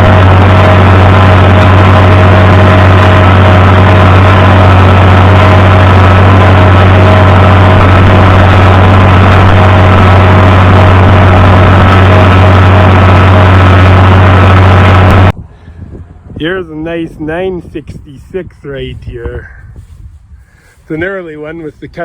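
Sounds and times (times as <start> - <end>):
tractor engine running: 0.0 - 18.3.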